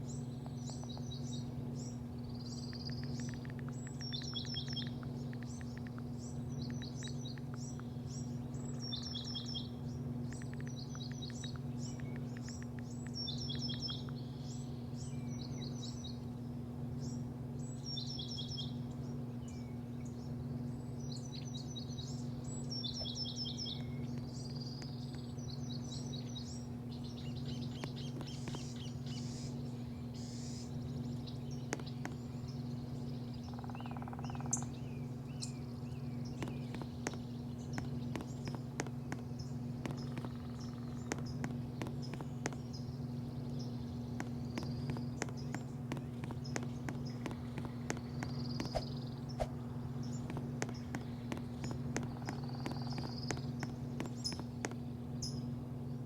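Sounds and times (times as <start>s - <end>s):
small bird chirping: 0.0s - 16.2s, 17.0s - 55.5s
steady low hum: 0.0s - 56.0s.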